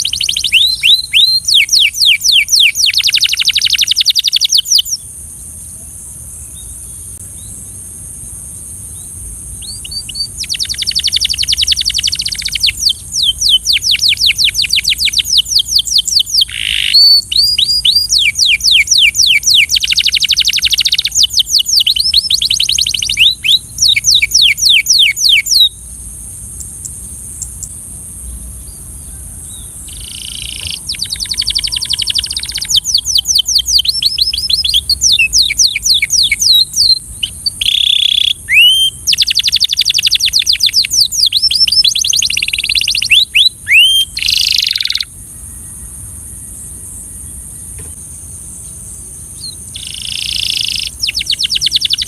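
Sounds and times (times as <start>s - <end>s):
canary singing trills: 0.0s - 5.1s, 8.9s - 46.0s, 48.6s - 52.0s.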